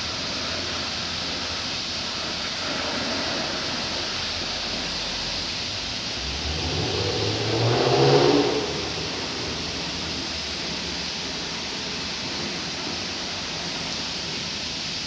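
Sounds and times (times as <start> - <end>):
car engine running: 0.0 - 14.2
rushing noise: 0.0 - 15.0.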